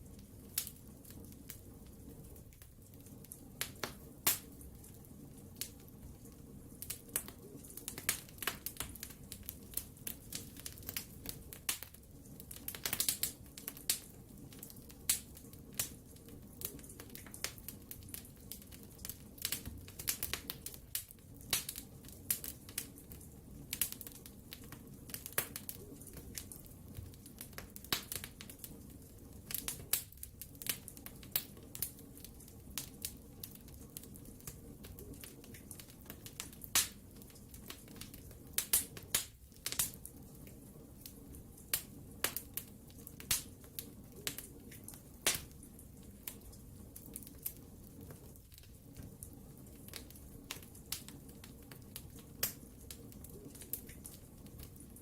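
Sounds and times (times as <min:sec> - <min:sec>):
fire crackles and pops: 0:00.0 - 0:55.0
hiss and rumble of flames: 0:00.0 - 0:55.0.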